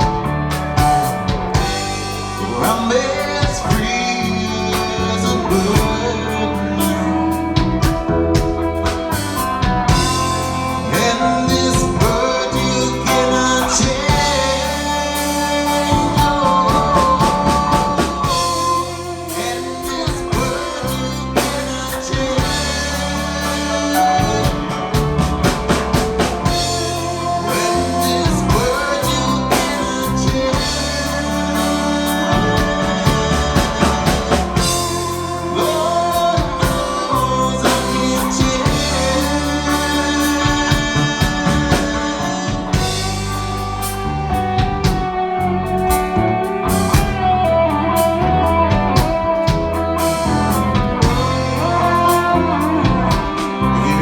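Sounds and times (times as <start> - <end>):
drum kit and bass beat: 0.0 - 54.0
gliding melodic guitar lines: 0.0 - 54.0.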